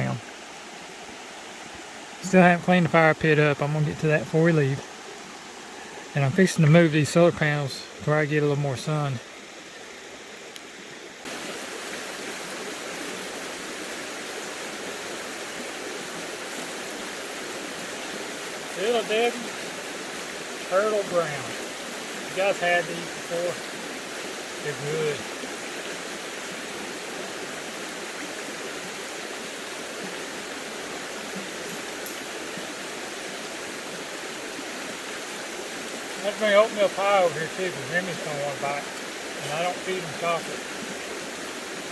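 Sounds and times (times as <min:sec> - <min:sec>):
creek water rushing: 0:00.0 - 0:41.9.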